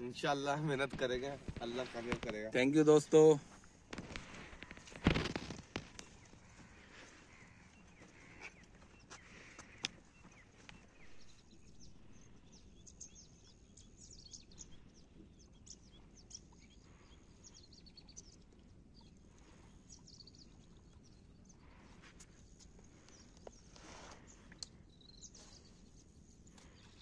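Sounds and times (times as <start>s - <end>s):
faint outdoor ambience: 0.0s - 27.0s.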